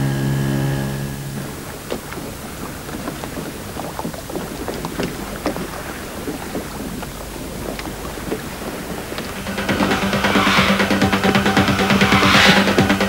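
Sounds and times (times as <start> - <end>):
small waves on stony beach: 1.4 - 13.0.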